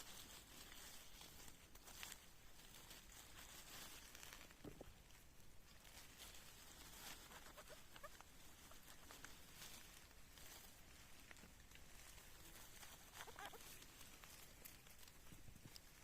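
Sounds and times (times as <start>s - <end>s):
faint rustles: 0.0s - 16.0s.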